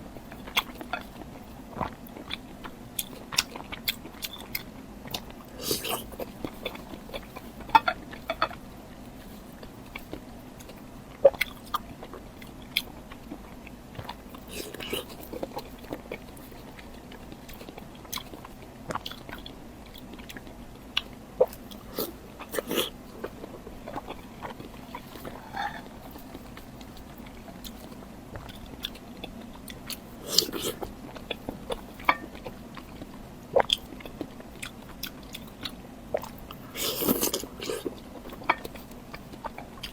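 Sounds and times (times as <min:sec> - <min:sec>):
person chewing: 0:00.3 - 0:39.9.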